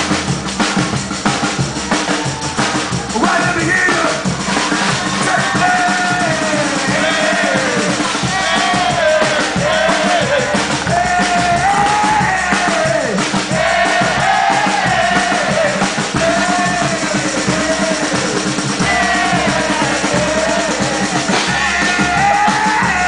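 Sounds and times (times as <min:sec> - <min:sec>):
samba drumming: 0:00.0 - 0:23.0.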